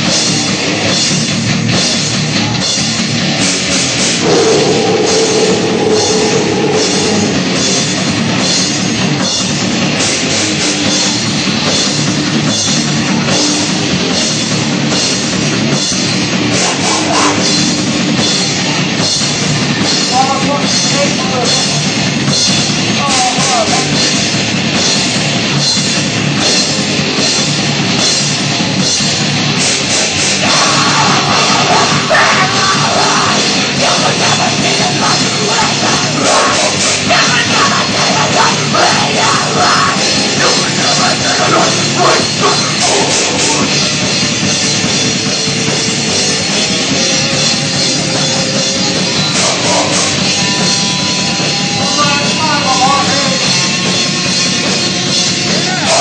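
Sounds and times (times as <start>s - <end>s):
drum kit beat: 0.0s - 56.0s
heavy rock band playing: 0.0s - 56.0s.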